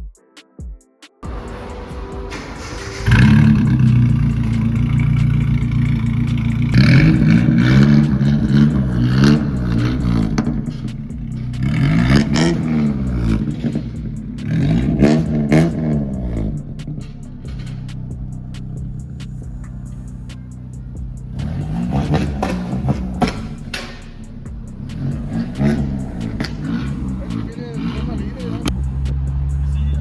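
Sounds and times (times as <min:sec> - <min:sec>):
pickup engine starting and revving: 0:01.2 - 0:30.0.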